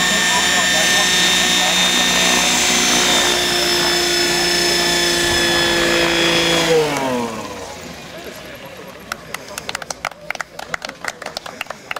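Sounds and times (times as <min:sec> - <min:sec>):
model helicopter engine and rotor: 0:00.0 - 0:11.9.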